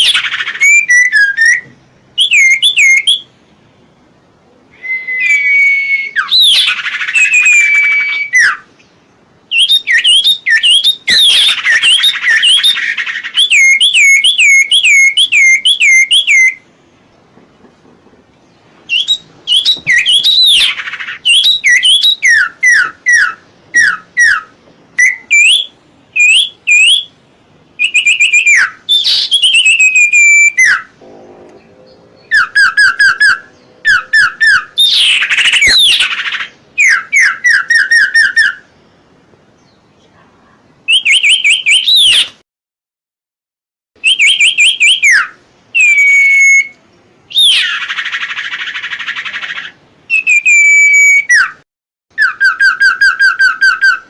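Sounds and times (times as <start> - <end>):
bird whistled song: 0.0 - 3.4, 4.7 - 16.6, 18.5 - 27.2, 27.8 - 31.0, 31.9 - 38.9, 40.9 - 42.4, 44.0 - 51.6, 52.2 - 54.0.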